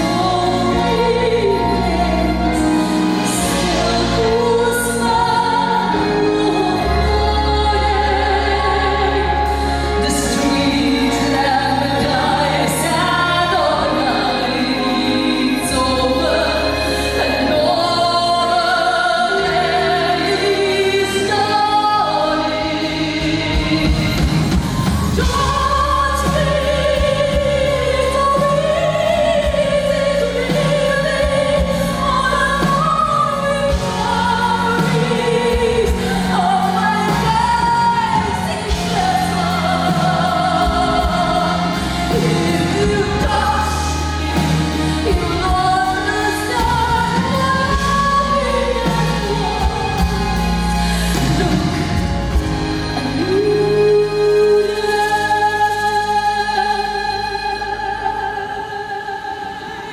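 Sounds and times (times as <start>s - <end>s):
bass and drums accompaniment: 0.0s - 58.7s
woman singing a slow ballad: 0.0s - 59.9s.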